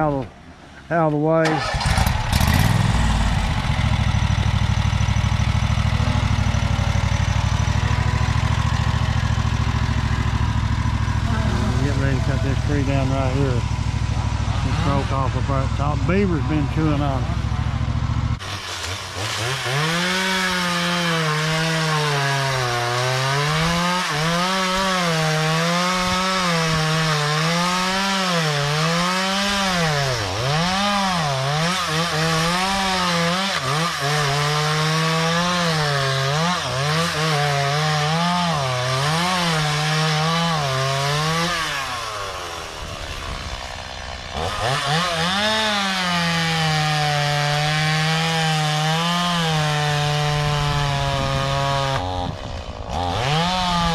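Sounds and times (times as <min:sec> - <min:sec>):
chainsaw cutting through a tree: 0:01.4 - 0:53.9.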